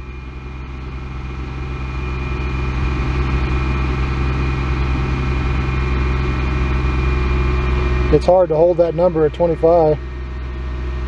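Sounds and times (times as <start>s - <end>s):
car engine fast idle: 0.0s - 11.0s.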